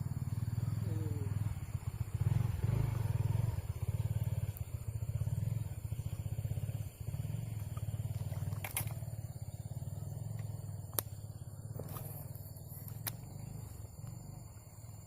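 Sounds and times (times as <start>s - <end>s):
small engine puttering: 0.0s - 15.0s.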